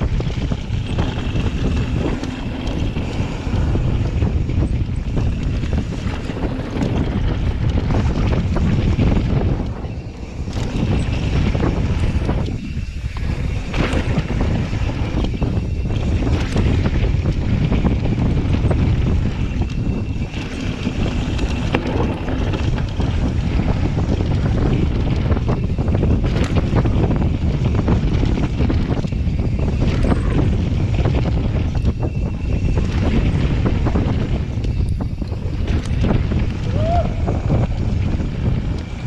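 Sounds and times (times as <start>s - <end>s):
bike knocking and rattling: 0.0s - 39.0s
wind rushing over microphone: 0.0s - 39.0s.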